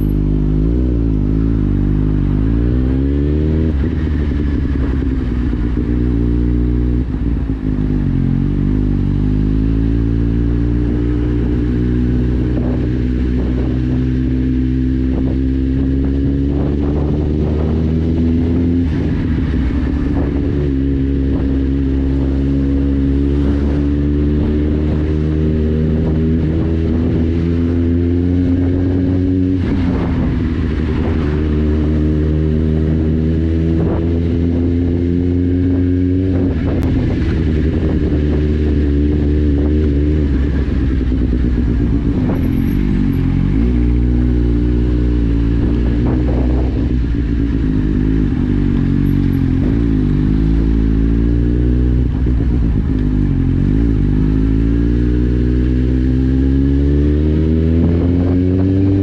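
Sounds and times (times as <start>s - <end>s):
loud motorcycle engine revving: 0.0s - 59.0s.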